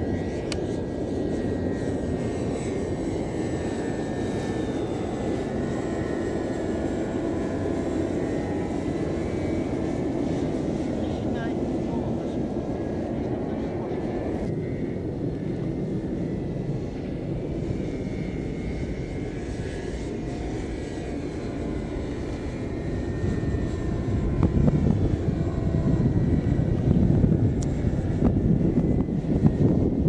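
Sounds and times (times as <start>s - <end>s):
model airplane motors whining: 0.0s - 30.0s
wind on microphone: 0.0s - 30.0s.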